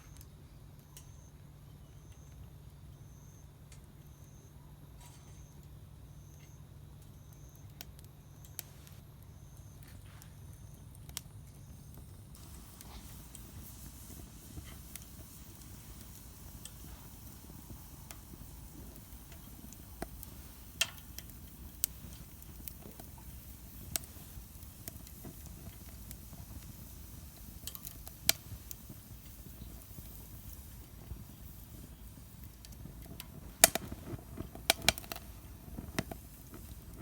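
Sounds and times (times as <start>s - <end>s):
crackles and pops of burning wood: 4.9s - 37.0s
wood fire burning: 4.9s - 37.0s.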